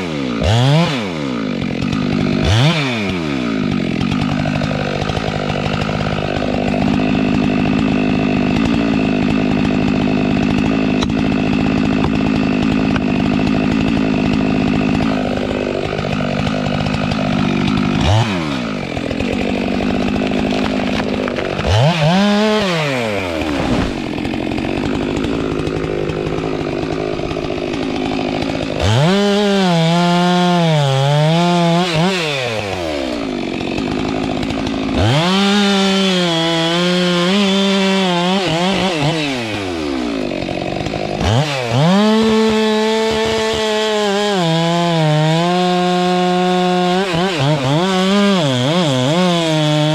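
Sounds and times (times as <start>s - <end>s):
chainsaw running and revving: 0.0s - 49.9s.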